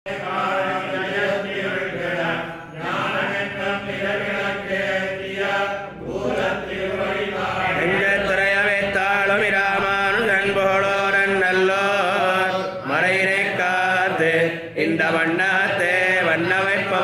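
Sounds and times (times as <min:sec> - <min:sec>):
person chanting a hymn: 0:00.1 - 0:17.0.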